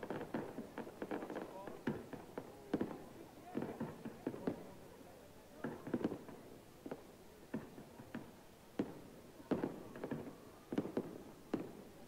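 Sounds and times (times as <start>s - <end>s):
fireworks bangs with echo: 0.0s - 4.8s, 5.6s - 12.0s.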